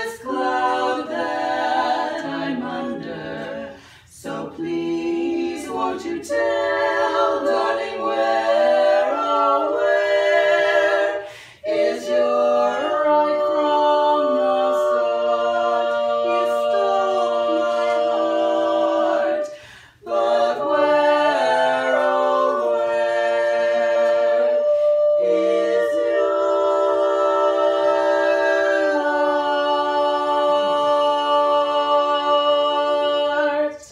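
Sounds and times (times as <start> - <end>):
women's vocal quartet singing: 0.0 - 33.9.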